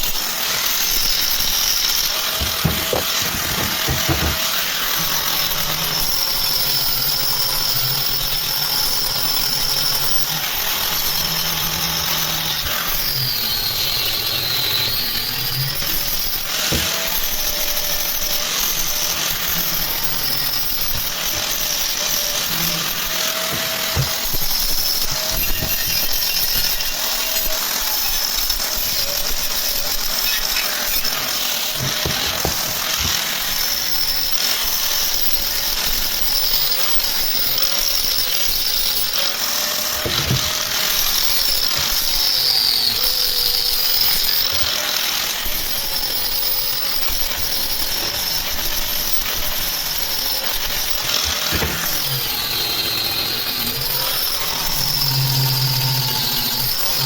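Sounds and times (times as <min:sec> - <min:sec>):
metalworking power tool hiss: 0:00.0 - 0:57.0.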